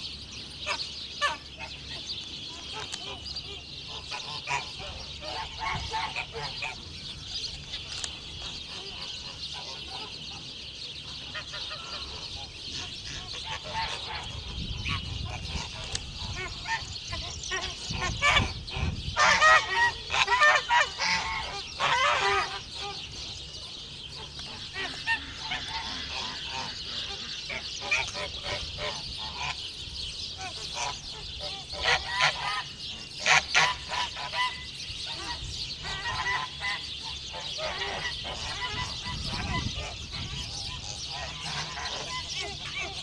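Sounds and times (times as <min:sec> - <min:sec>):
geese honking: 0:00.6 - 0:07.0, 0:08.3 - 0:29.7, 0:30.3 - 0:43.0.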